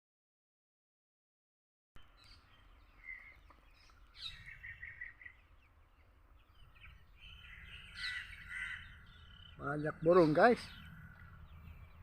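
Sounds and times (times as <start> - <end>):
birds chirping: 2.0 - 12.0.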